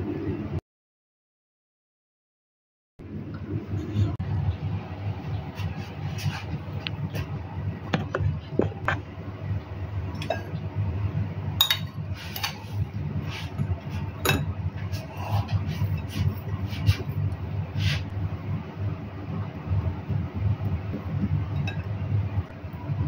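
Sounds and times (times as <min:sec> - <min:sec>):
low hum: 0:03.0 - 0:23.0.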